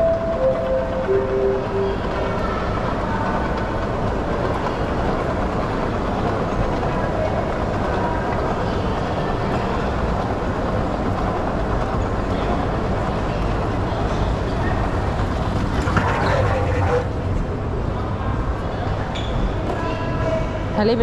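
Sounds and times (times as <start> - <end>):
moving walkway rumbling: 0.0 - 19.8.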